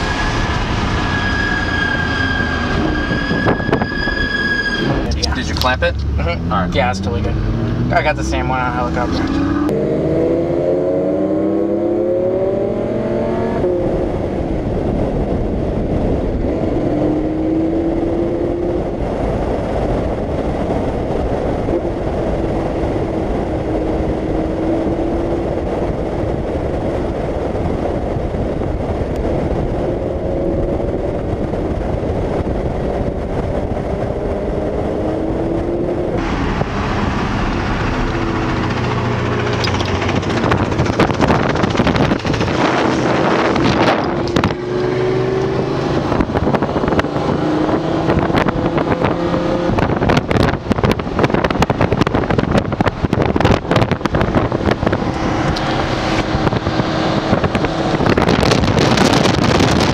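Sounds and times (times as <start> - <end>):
wind rushing on microphone: 0.0 - 59.9
sports car engine revving: 4.8 - 26.0, 32.8 - 59.9.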